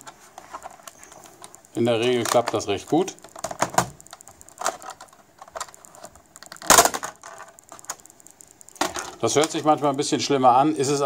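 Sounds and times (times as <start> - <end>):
plastic clips clicking and cracking: 0.0 - 9.8.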